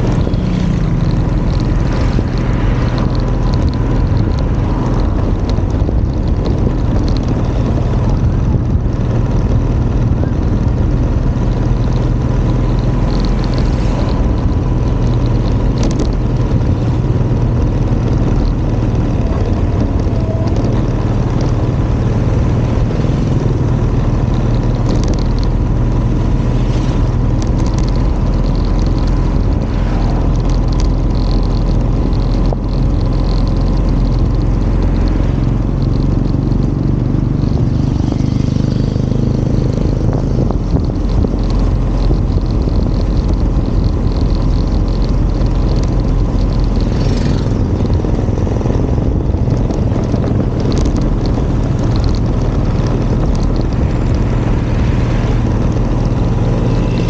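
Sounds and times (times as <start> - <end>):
low engine hum: 0.0 - 57.0
wind on microphone: 0.0 - 57.0.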